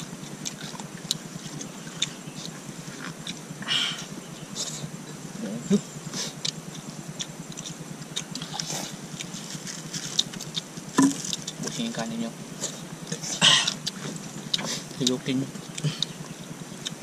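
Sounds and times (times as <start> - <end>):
people chewing and eating: 0.0 - 17.0.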